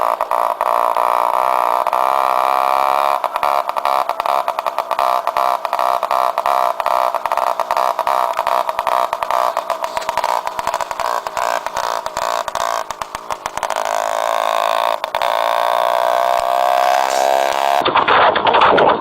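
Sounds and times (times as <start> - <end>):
moped engine crackling: 0.0 - 19.0.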